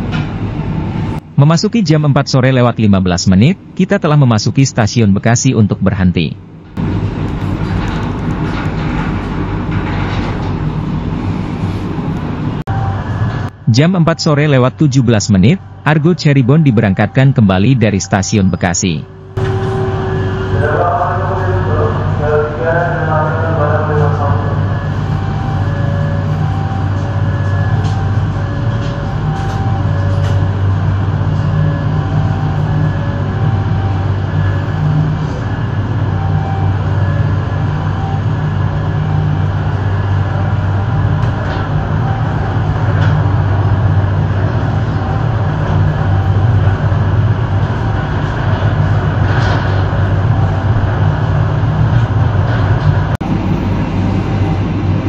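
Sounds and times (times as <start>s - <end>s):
train rumbling: 0.0s - 2.1s, 6.4s - 55.0s.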